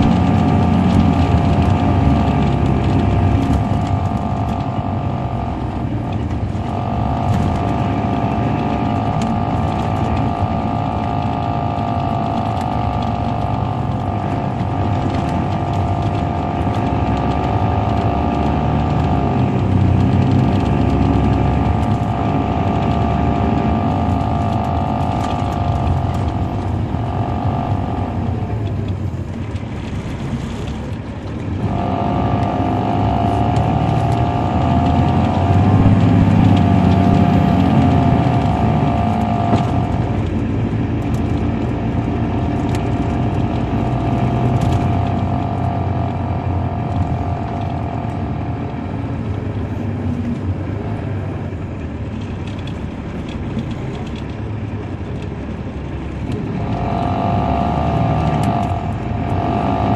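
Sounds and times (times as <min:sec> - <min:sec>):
high whine: 0:00.0 - 0:49.7
diesel engine rumble: 0:00.0 - 0:59.9.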